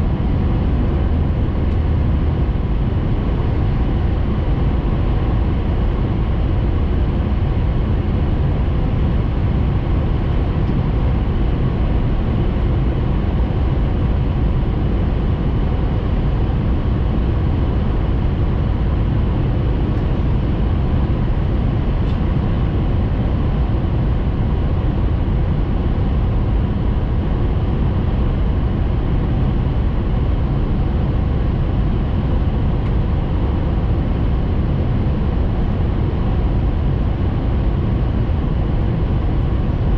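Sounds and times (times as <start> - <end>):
train cabin rumble at speed: 0.0 - 39.9.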